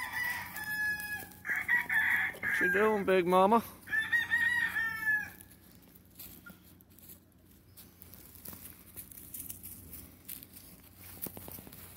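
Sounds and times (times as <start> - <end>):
rustling in dry leaves: 0.0 - 11.9.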